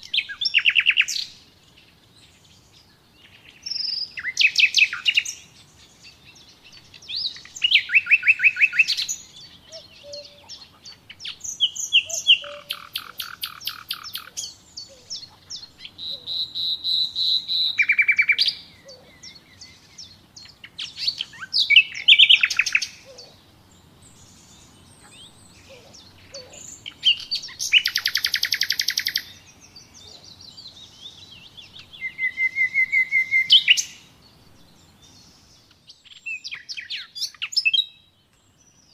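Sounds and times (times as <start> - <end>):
soft bird chirps and calls: 0.0 - 38.9
songbirds singing trills: 0.0 - 38.9.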